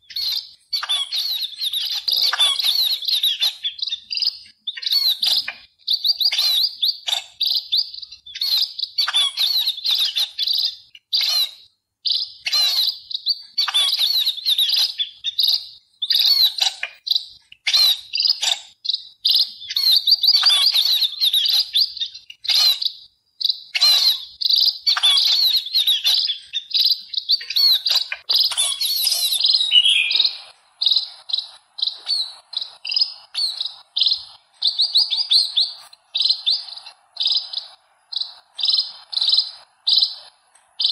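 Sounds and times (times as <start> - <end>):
short evenly spaced chirps: 0.0 - 40.9
songbirds chirping and twittering: 0.0 - 40.9.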